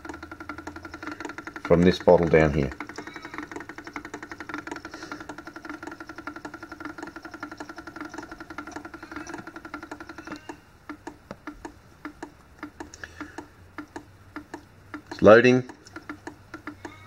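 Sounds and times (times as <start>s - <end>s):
pump hum: 0.0s - 17.0s
pump ticking: 0.0s - 17.0s
slow clicking: 0.0s - 17.0s.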